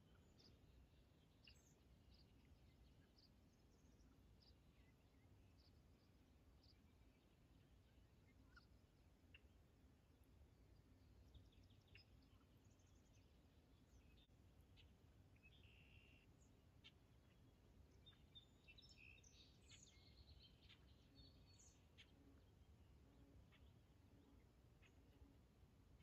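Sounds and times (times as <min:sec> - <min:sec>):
bird chirps: 0:00.0 - 0:09.5, 0:10.8 - 0:25.3.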